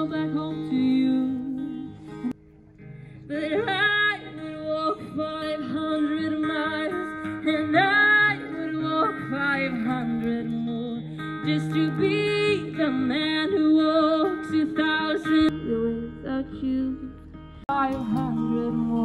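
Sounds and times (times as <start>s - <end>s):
woman singing: 0.0s - 2.4s, 3.3s - 19.0s
acoustic guitar: 0.0s - 19.0s.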